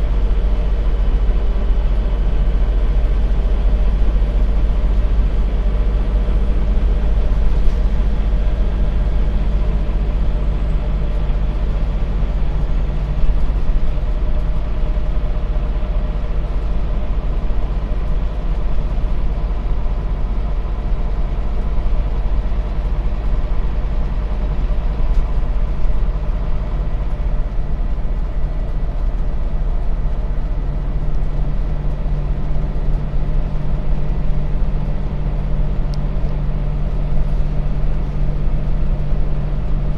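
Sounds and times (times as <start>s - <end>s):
bus engine humming: 0.0s - 39.9s
road noise: 0.0s - 39.9s.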